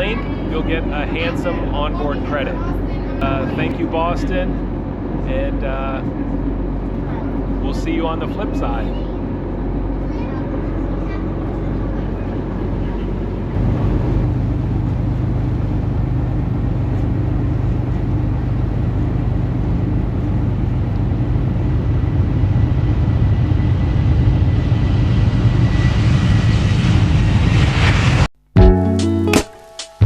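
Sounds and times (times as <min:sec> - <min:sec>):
vehicle engine rumbling: 0:00.0 - 0:28.3.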